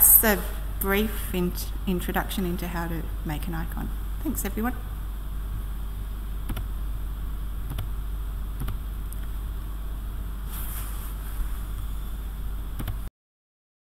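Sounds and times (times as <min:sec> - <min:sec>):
low electrical hum and hiss: 0:00.0 - 0:13.1.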